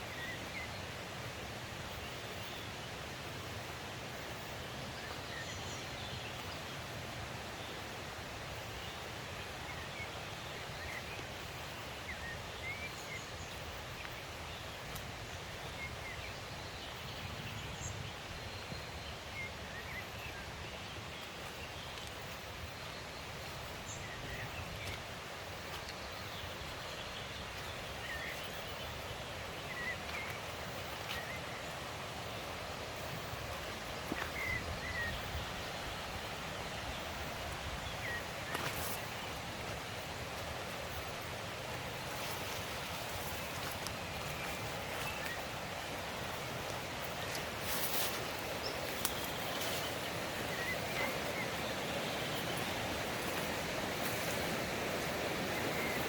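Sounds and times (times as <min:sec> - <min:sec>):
forest stream rushing: 0:00.0 - 0:56.0.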